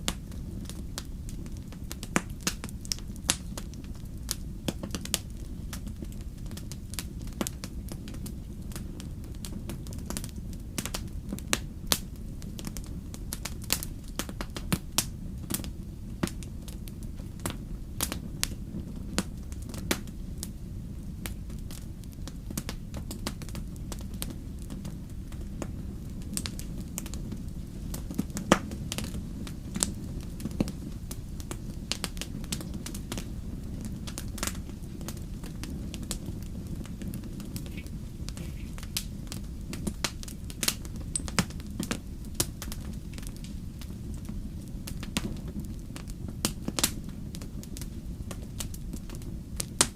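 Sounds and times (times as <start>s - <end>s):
campfire crackling: 0.0s - 49.9s
low fire rumble: 0.0s - 49.9s
sharp pops of fire: 0.0s - 49.9s.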